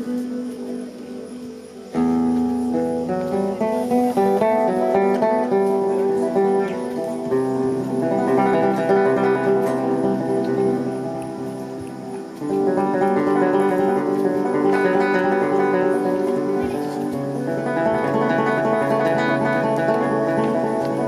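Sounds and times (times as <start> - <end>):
plucked string instrument melody: 0.0 - 21.0.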